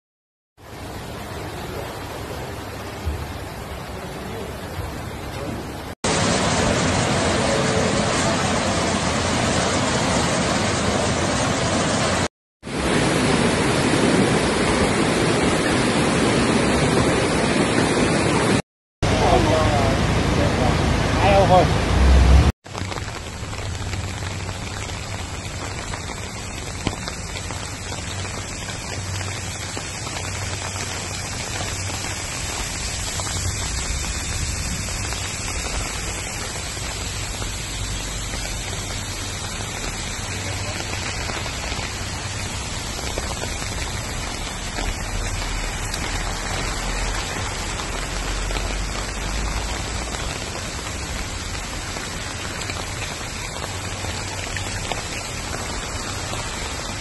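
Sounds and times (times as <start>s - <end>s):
rain on a wet road: 0.6s - 57.0s.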